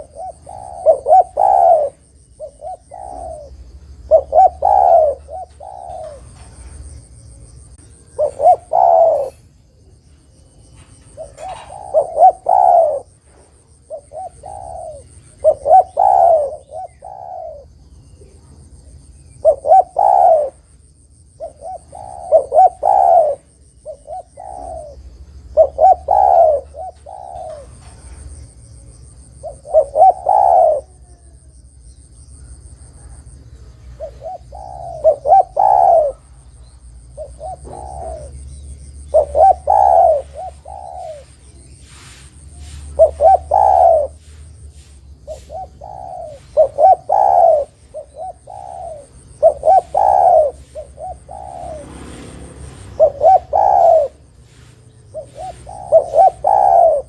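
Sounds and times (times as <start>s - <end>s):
dove cooing: 0.0s - 31.7s, 32.4s - 57.0s.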